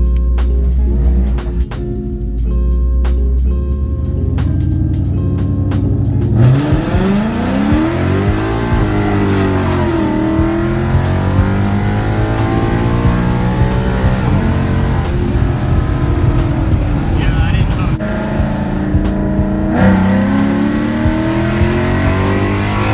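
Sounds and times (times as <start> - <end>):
music: 0.0 - 22.9
car engine accelerating hard: 0.5 - 2.0, 3.8 - 22.9.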